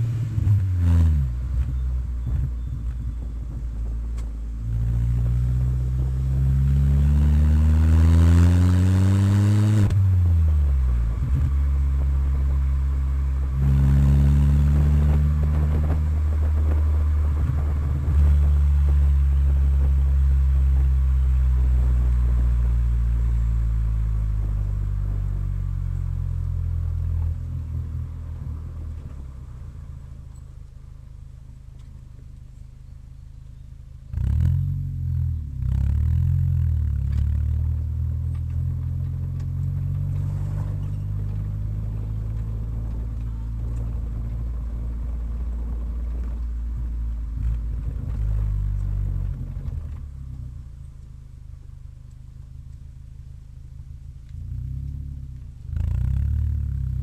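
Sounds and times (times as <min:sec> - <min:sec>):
car engine revving: 0:00.0 - 0:30.4, 0:34.0 - 0:51.4, 0:53.8 - 0:57.0.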